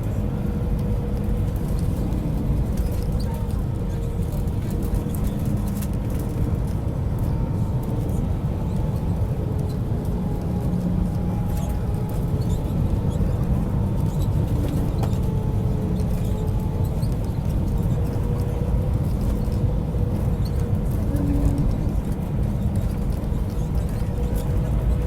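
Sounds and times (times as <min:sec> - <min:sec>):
airliner low rumble: 0:00.0 - 0:25.0.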